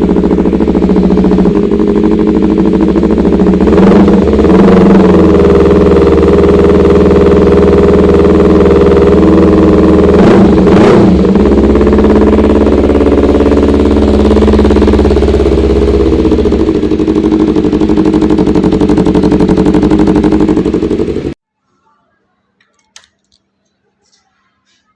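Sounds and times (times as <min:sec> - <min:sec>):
motorcycle engine idling: 0:00.0 - 0:21.4.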